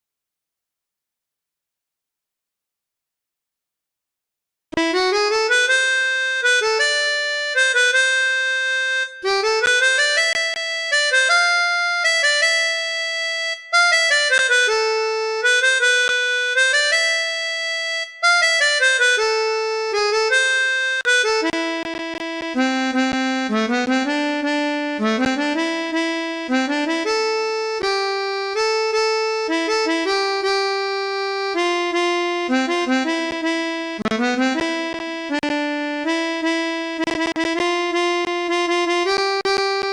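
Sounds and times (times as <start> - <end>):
harmonica melody: 4.8 - 39.9.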